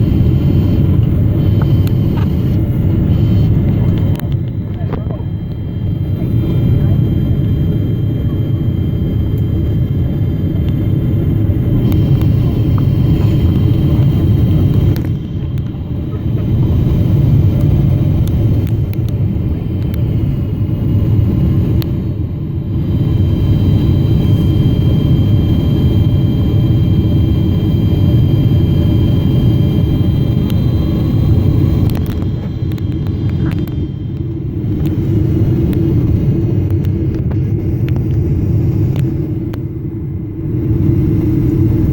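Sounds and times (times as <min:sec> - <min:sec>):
airplane cabin engine rumble: 0:00.0 - 0:41.9
faint high whining tones: 0:00.0 - 0:41.9.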